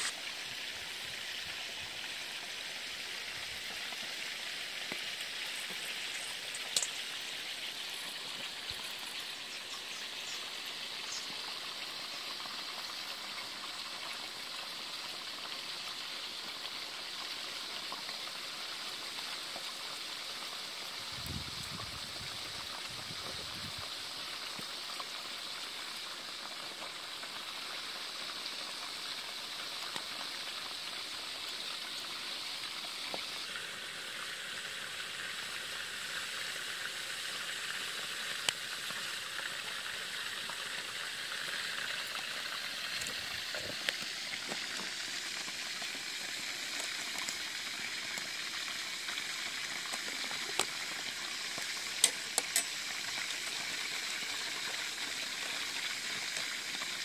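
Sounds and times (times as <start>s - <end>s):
chicken sizzling in hot oil: 0.0s - 57.0s.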